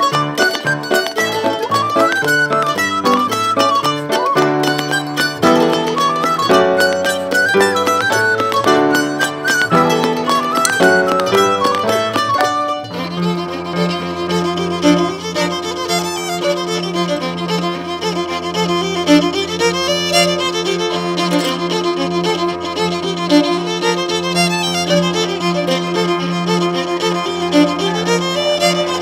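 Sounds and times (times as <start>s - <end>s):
fiddle melody: 0.0s - 29.0s
mandolin: 0.0s - 29.0s
upright piano: 0.0s - 29.0s.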